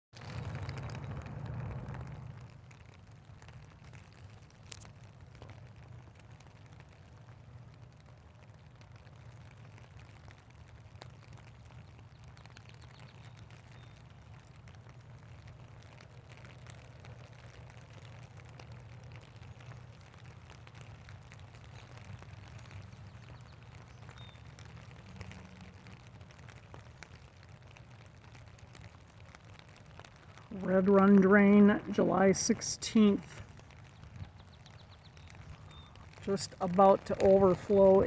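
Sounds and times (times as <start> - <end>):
steady rain: 0.1 - 38.0
drops ticking: 0.2 - 38.0
faint low rumble: 0.2 - 38.0.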